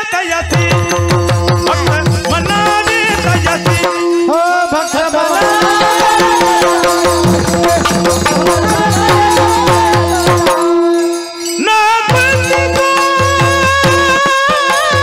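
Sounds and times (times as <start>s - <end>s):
men singing: 0.0s - 15.0s
hand cymbals clashing: 1.0s - 15.0s.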